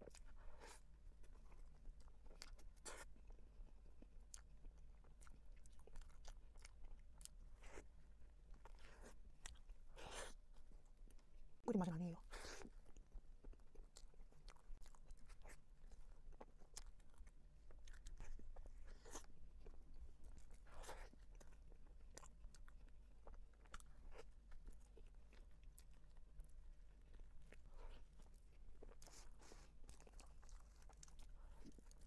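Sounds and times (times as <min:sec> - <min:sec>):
chewing with wet clicks: 0:00.0 - 0:11.6, 0:12.3 - 0:32.0.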